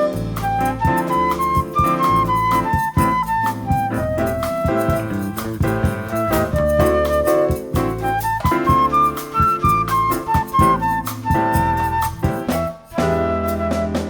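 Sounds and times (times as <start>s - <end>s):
small jazz band playing: 0.0s - 14.0s.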